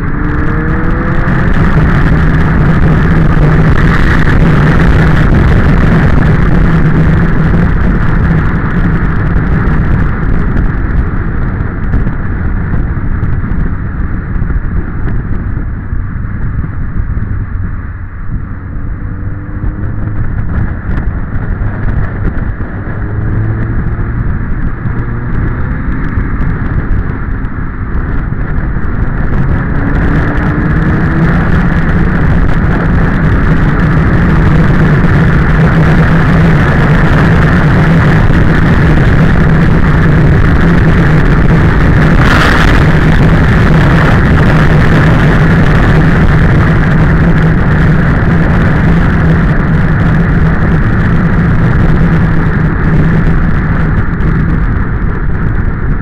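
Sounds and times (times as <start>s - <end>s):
motorcycle engine: 0.0s - 56.0s
wind on microphone: 0.0s - 56.0s.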